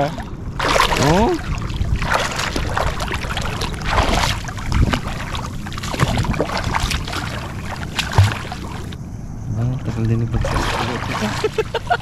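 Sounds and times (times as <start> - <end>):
moving river water: 0.0 - 9.0, 9.9 - 12.0
splashing in water: 0.0 - 9.0, 10.3 - 12.0.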